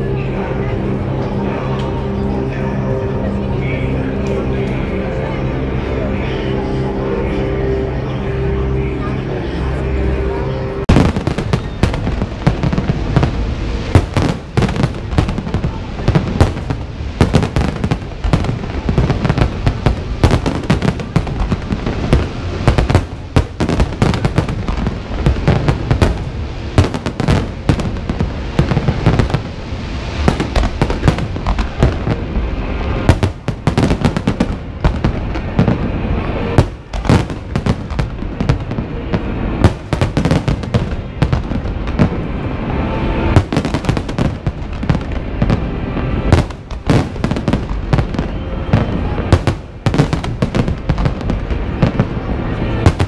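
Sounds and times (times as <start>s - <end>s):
loud fireworks reports: 0.0s - 53.0s
low rolling rumble: 0.0s - 53.0s
fireworks bangs and crackles: 9.7s - 53.0s.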